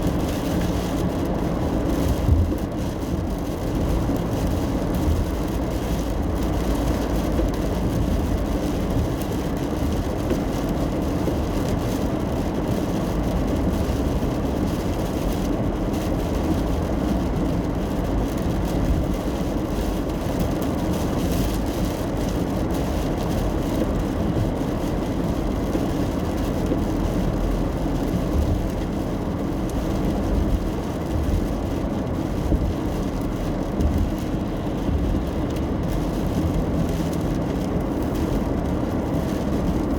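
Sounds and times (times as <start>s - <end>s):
rain pattering on car: 0.0s - 39.9s.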